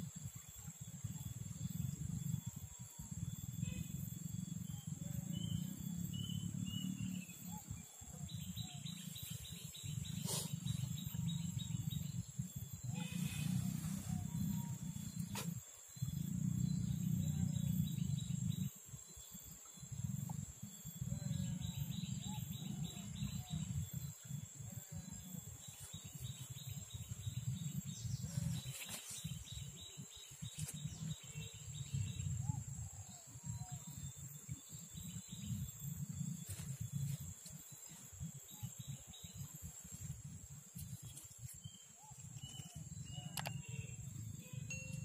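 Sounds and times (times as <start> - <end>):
high insect buzz: 0.0 - 45.0.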